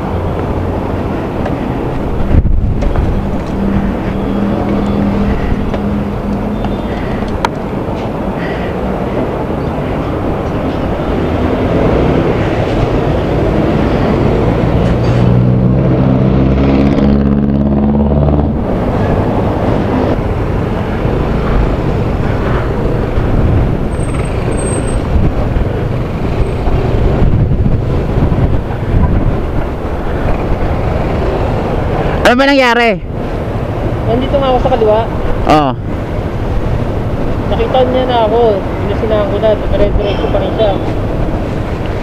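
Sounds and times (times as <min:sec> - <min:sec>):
wind and road noise: 0:00.0 - 0:42.0.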